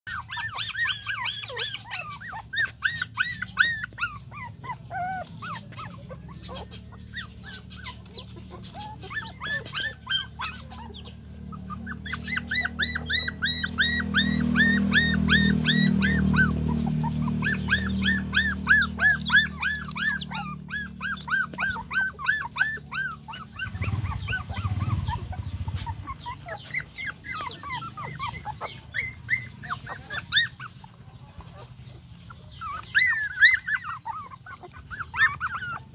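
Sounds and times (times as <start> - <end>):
puppies whimpering and squeaking: 0.0 - 35.9.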